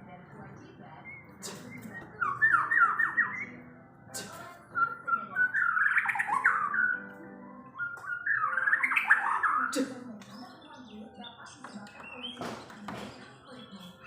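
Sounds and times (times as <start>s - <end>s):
songbird singing sharp notes: 0.9s - 14.0s.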